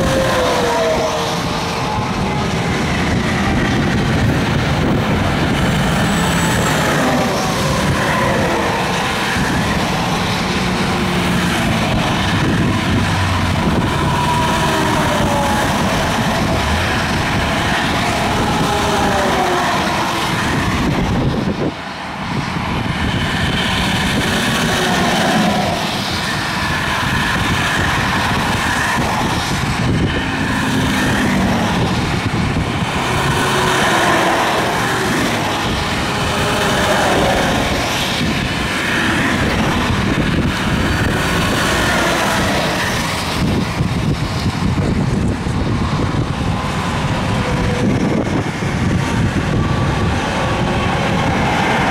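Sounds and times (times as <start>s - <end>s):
highway traffic passing: 0.0s - 51.9s
vehicle tyre whines: 0.0s - 51.9s.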